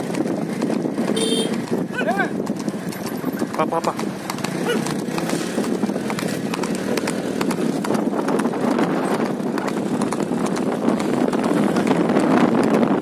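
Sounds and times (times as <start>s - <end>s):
hooves clip-clopping on asphalt: 0.0s - 13.0s.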